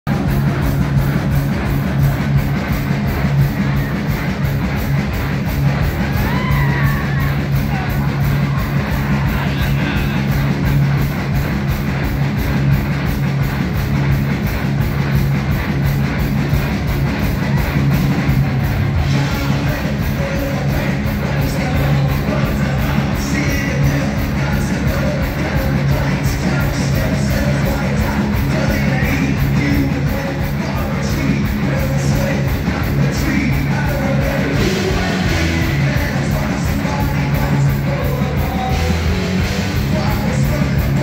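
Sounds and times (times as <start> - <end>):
bass guitar: 0.0 - 41.0
drums: 0.0 - 41.0
electric guitars: 0.1 - 41.0.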